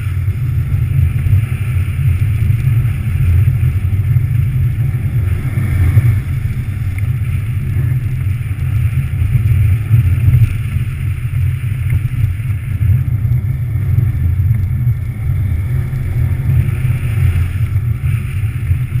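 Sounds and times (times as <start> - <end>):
car engine rumbling under load: 0.0 - 19.0
studded tyres hissing on ice: 0.0 - 19.0.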